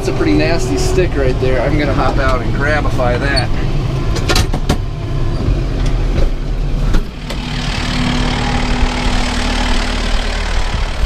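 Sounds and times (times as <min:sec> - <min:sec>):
steady hum: 0:00.0 - 0:11.0
tractor engine running: 0:00.0 - 0:11.0.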